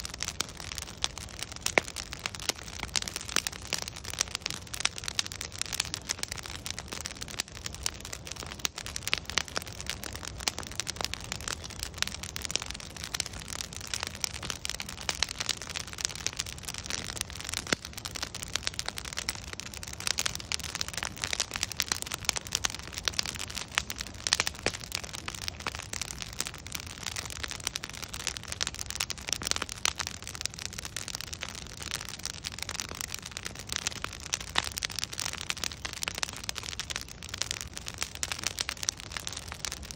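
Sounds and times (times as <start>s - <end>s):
flames hissing and rumbling: 0.0s - 39.9s
wood fire crackling: 0.0s - 39.9s.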